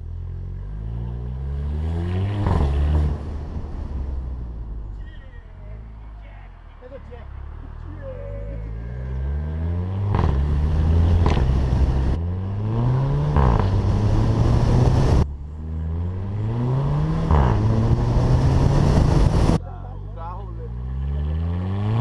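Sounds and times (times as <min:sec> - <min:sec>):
car engine accelerating hard: 0:00.0 - 0:04.4, 0:08.7 - 0:22.0
exhaust blat on upshift: 0:00.0 - 0:22.0.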